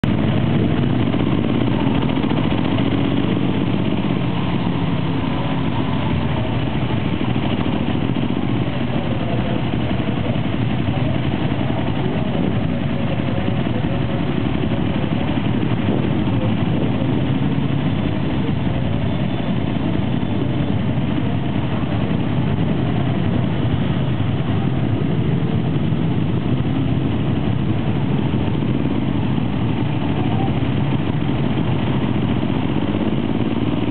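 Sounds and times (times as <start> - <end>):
motorcycle engines at low revs: 0.0 - 33.9.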